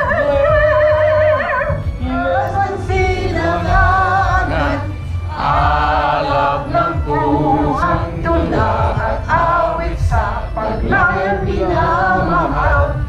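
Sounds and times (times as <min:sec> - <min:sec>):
group singing unaccompanied: 0:02.0 - 0:13.0.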